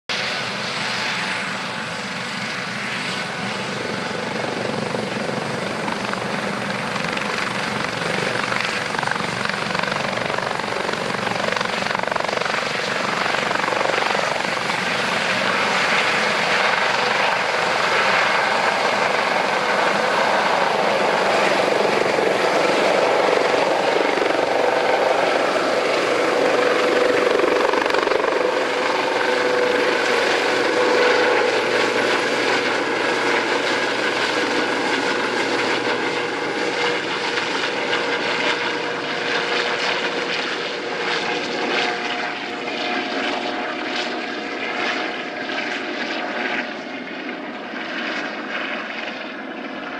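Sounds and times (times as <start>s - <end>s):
turbine whine: 0.1s - 44.1s
helicopter turbines and rotor: 0.1s - 49.9s.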